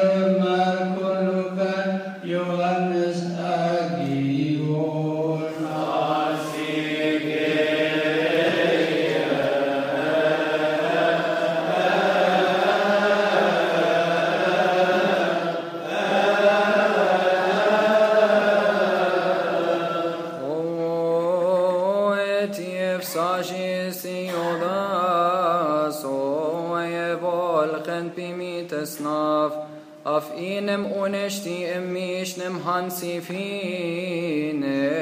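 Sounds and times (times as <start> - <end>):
man chanting: 0.0 - 35.0.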